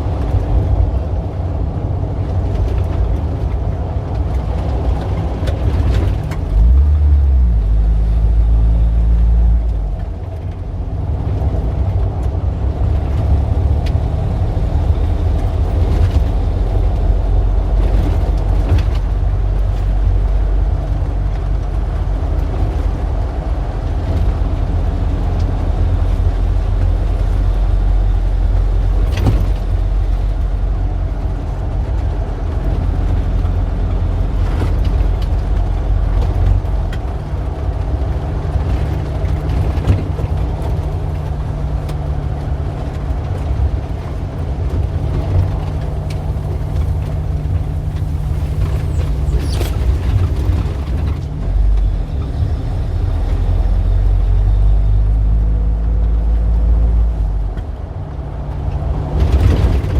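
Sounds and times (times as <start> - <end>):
traffic engines rumbling: 0.0 - 59.9.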